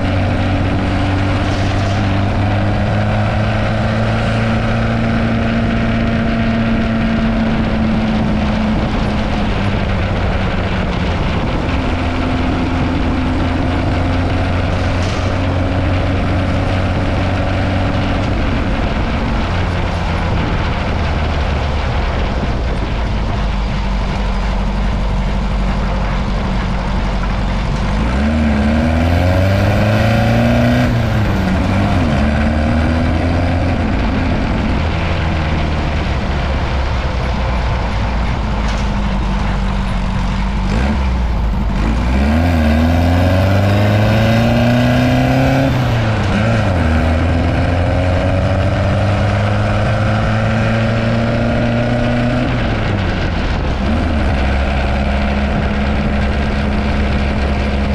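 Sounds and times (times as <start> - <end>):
dune buggy engine running: 0.0 - 57.9
road and wind noise: 0.0 - 57.9.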